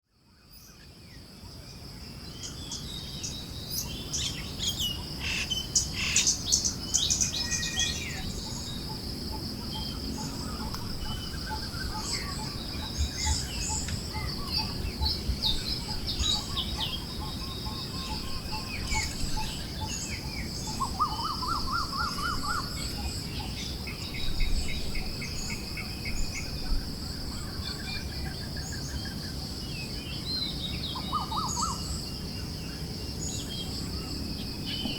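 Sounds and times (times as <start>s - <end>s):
insect drone: 0.1s - 34.9s
low wind noise: 1.4s - 34.9s
birds chirping and trilling: 2.0s - 34.9s.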